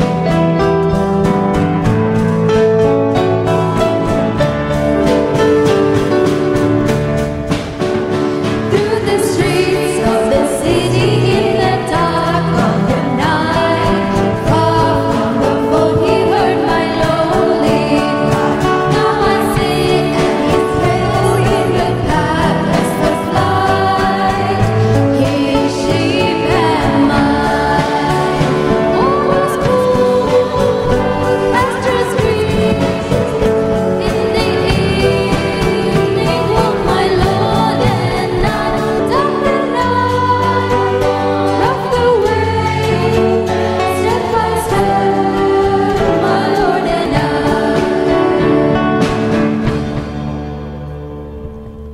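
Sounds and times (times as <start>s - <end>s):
instrumental accompaniment: 0.0s - 51.9s
voices singing a gospel hymn: 8.4s - 50.1s.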